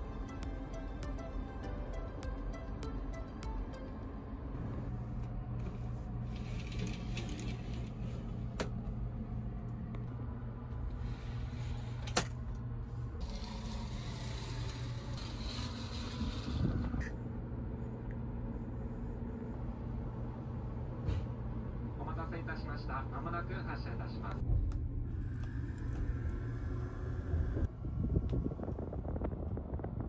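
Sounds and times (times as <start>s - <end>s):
train hum: 0.0s - 30.0s.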